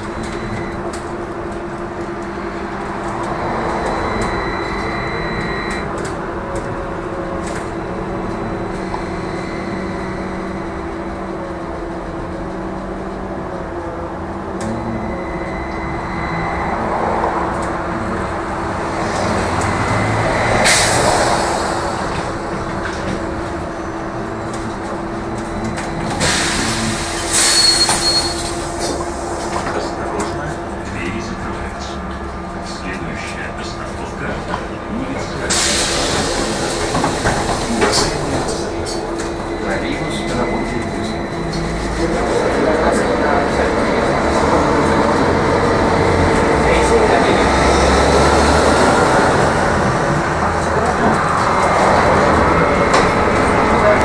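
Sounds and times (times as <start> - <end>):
tyre and road noise: 0.0 - 54.0.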